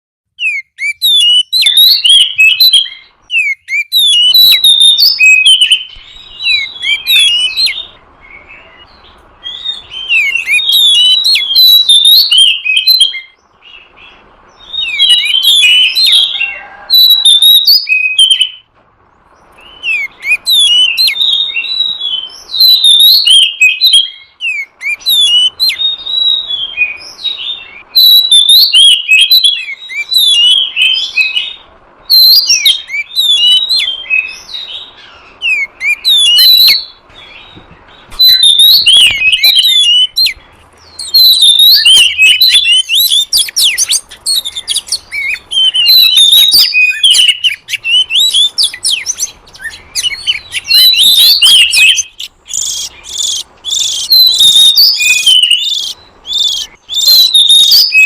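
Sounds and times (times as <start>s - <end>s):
magpie-robin song: 0.3s - 58.0s.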